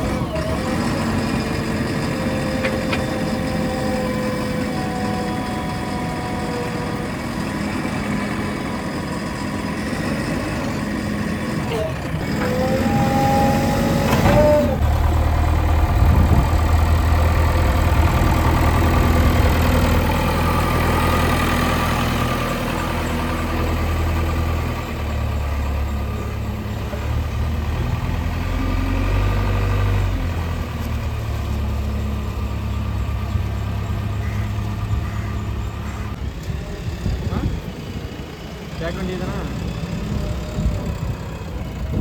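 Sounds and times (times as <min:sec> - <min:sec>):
heavy diesel engine rumbling: 0:00.0 - 0:42.0.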